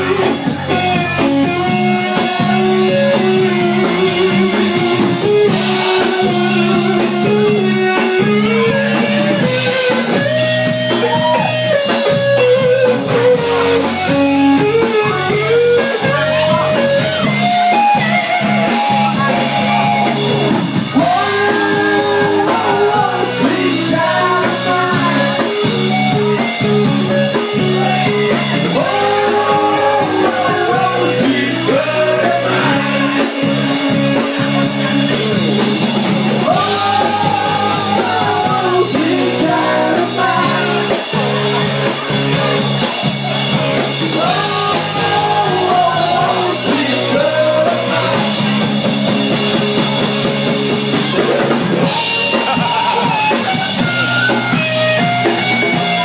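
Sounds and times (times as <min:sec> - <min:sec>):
rock song with guitar and vocals: 0:00.0 - 0:56.0.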